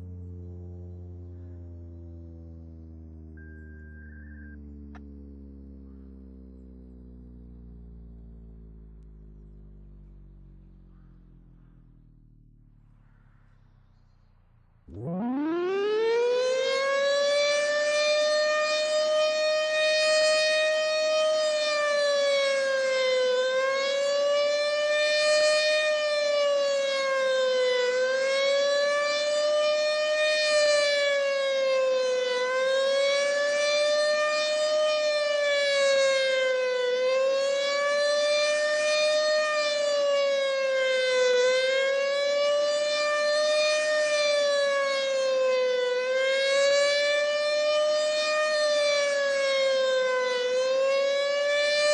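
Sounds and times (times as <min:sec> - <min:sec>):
wavering warning siren: 0:00.0 - 0:51.9.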